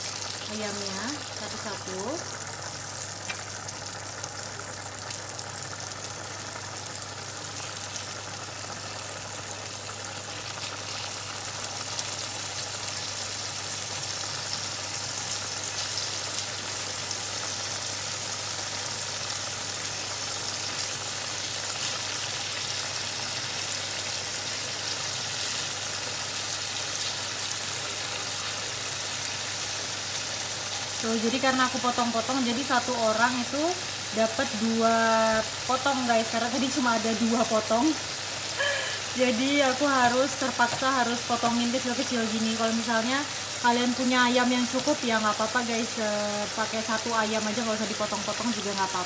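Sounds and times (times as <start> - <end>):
chicken sizzling in frying pan: 0.0 - 49.0.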